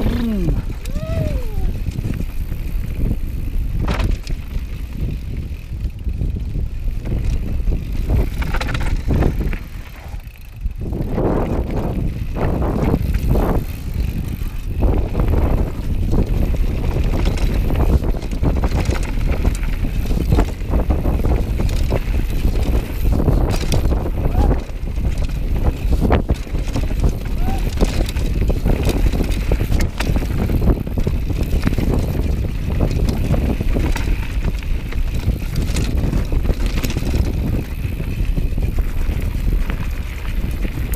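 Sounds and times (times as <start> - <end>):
bike rattles and knocks: 0.0 - 40.9
bike tyres rumbling over gravel: 0.0 - 40.9.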